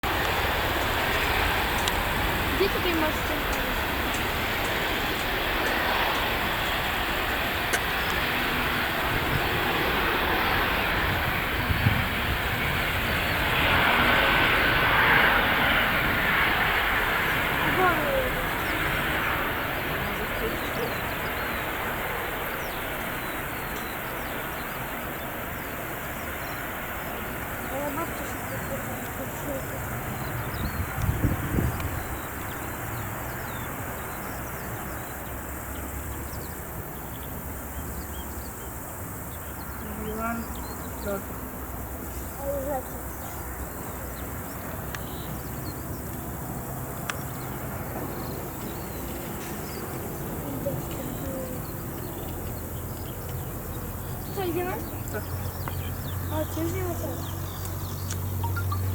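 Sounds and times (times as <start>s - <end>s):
jet engines roaring: 0.0s - 58.9s
small birds chirping: 0.1s - 58.9s.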